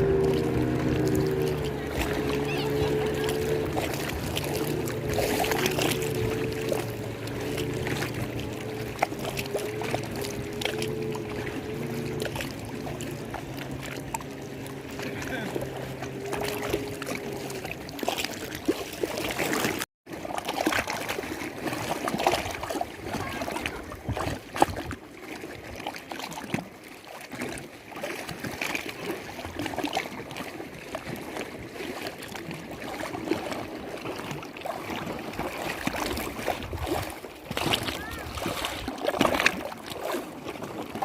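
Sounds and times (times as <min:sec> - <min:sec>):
lake water lapping: 0:00.0 - 0:41.0
small splashes and gurgles: 0:00.0 - 0:41.0.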